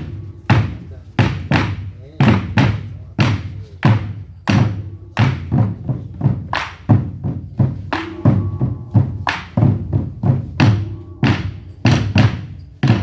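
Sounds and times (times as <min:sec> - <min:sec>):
barrel drums beaten heavily: 0:00.0 - 0:13.0.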